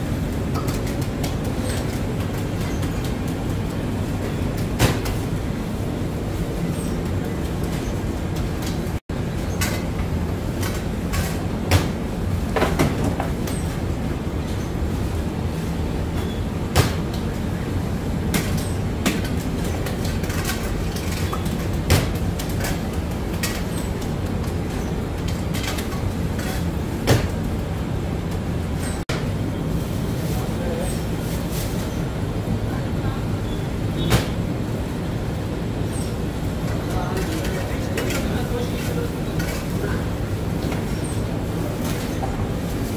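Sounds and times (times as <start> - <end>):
bakery equipment hum: 0.0 - 42.9.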